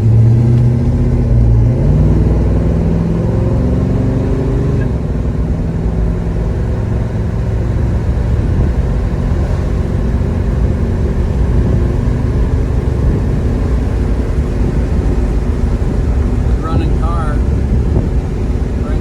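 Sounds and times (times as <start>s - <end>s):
car engine running: 0.0s - 19.0s
wind and road noise: 0.0s - 19.0s.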